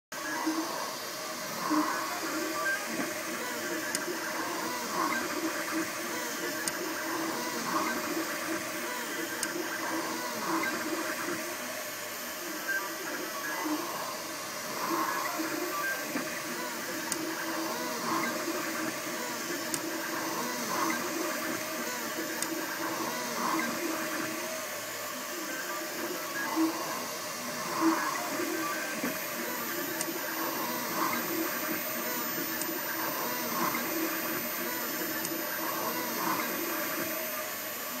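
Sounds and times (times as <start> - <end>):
three d printer stepper motors whirring: 0.2 - 38.0.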